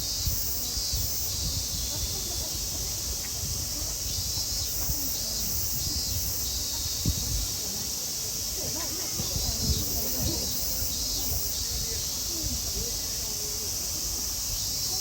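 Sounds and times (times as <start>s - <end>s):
faint distant voices: 0.0s - 15.0s.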